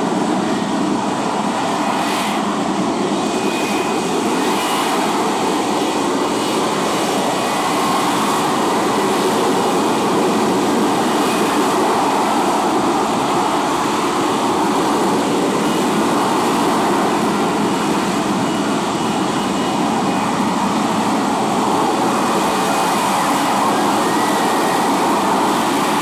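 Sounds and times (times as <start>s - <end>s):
jet engine running at high power: 0.0s - 26.0s.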